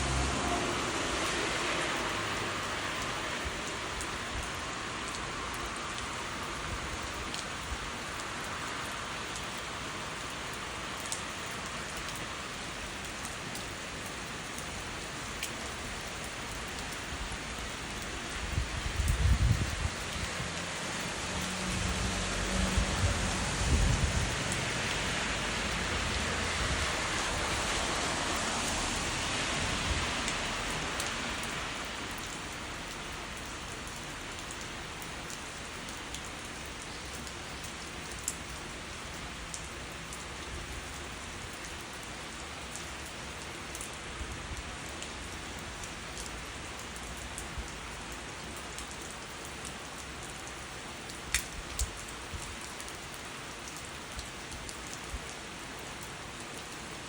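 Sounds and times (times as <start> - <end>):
rain falling: 0.0 - 57.0
sharp individual raindrops: 0.0 - 57.0.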